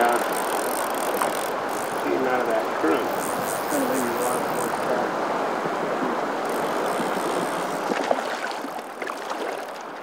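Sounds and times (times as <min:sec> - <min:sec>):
river current rushing: 0:00.0 - 0:10.0.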